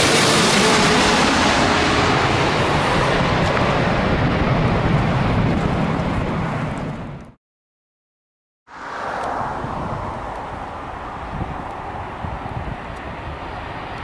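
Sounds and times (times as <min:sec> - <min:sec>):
jet engine rumble: 0:00.0 - 0:07.4, 0:08.7 - 0:14.0.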